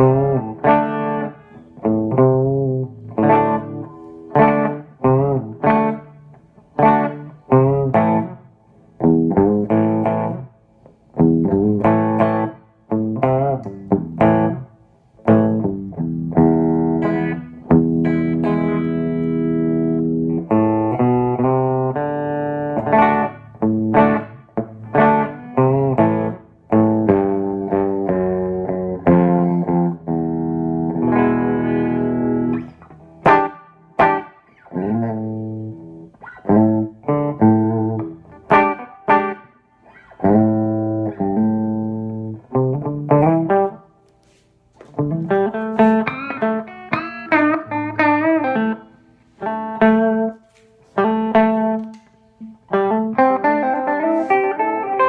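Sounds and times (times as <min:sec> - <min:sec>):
electric guitar chords and riffs: 0:00.0 - 0:55.0.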